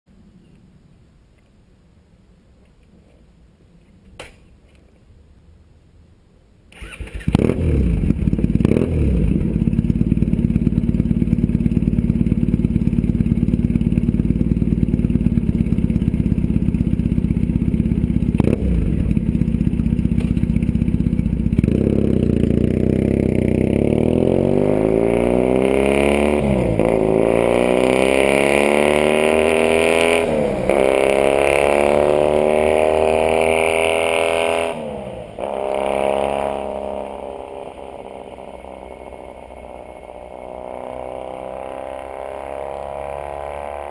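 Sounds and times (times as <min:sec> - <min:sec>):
motorcycle engine idling and revving: 0:06.7 - 0:43.9.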